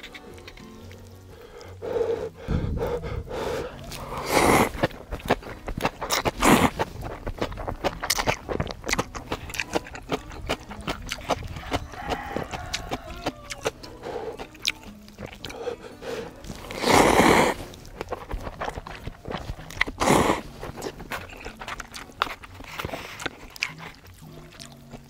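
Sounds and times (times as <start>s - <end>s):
person chewing with crunches: 0.0s - 25.0s
slurping noodles: 1.4s - 25.0s.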